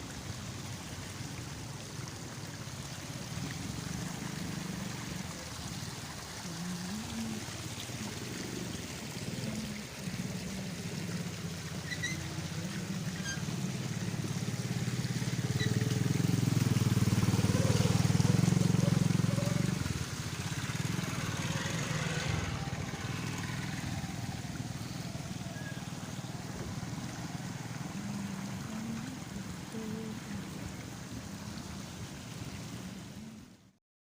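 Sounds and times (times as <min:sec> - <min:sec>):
vehicle engine humming: 0:00.0 - 0:33.7.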